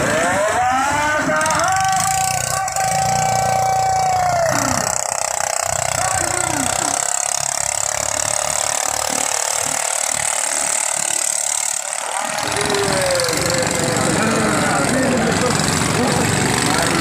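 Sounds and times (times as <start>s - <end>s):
longtail boat engines running: 0.0s - 17.0s.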